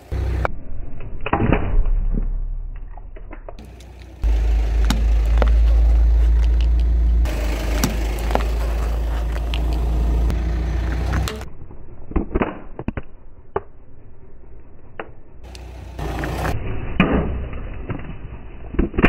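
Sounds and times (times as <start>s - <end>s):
car engine rumble: 0.0s - 17.8s
grit crackling under tyre: 1.2s - 19.0s.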